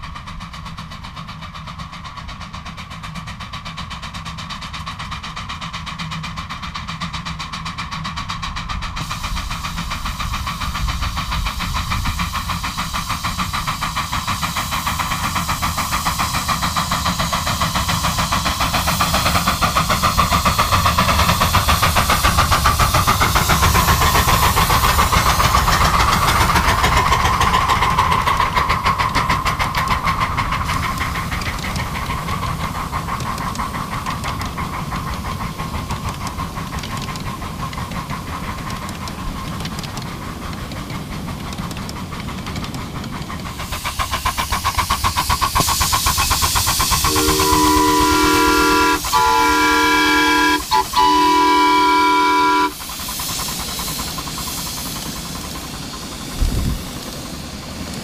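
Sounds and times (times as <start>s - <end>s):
miniature train locomotive approaching: 0.0s - 58.0s.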